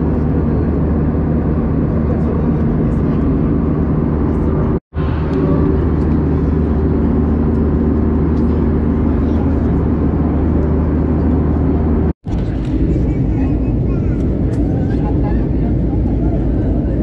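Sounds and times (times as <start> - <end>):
jet engine and airflow noise: 0.0 - 17.0.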